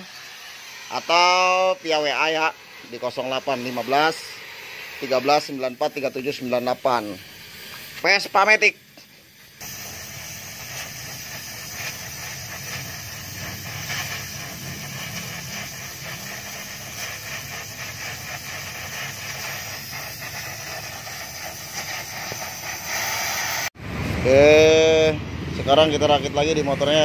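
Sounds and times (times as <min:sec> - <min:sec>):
welding torch hissing: 0:00.0 - 0:24.4.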